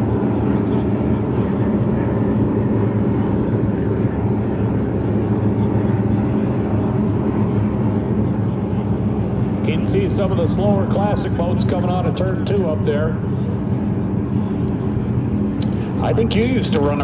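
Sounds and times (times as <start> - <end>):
powerboat engines droning: 0.0 - 17.0.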